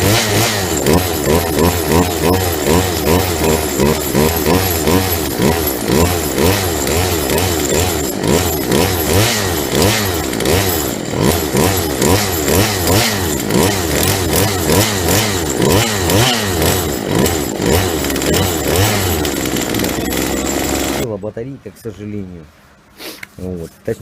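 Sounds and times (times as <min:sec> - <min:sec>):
chainsaw engine revving: 0:00.0 - 0:21.1.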